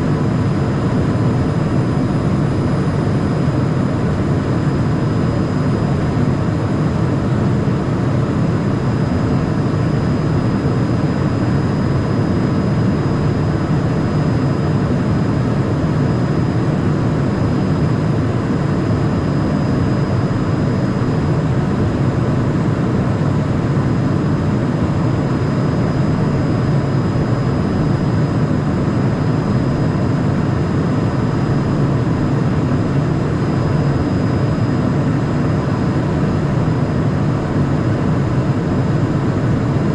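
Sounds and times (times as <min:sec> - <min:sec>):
faint high whine: 0:00.0 - 0:39.9
jet engine and airflow rush: 0:00.0 - 0:39.9.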